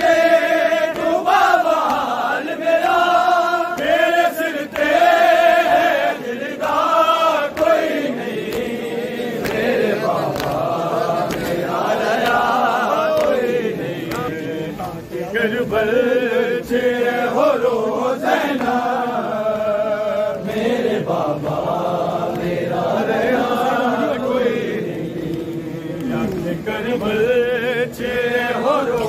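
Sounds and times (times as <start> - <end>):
men chanting a lament: 0.0 - 29.0.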